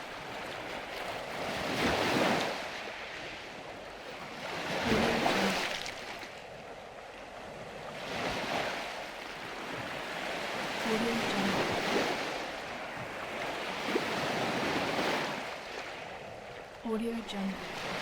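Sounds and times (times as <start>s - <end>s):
sea waves breaking gently: 0.0s - 18.0s.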